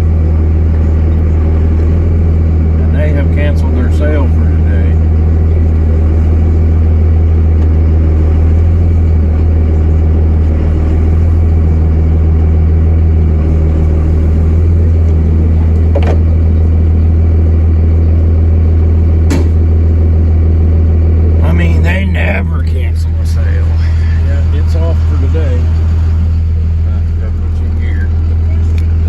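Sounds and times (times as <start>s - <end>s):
truck engine droning: 0.0s - 29.0s.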